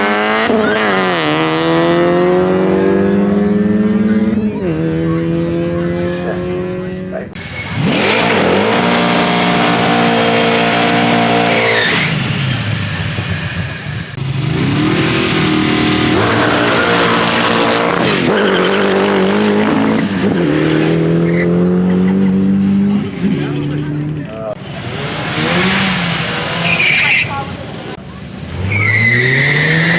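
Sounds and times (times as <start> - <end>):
drag racing car engine revving: 0.0 - 29.9.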